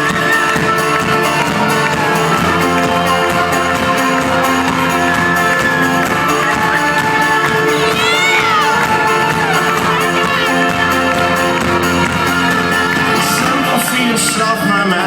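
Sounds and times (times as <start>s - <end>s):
acoustic guitar and banjo strumming: 0.0s - 15.0s
folk-rock band playing live: 0.0s - 15.0s.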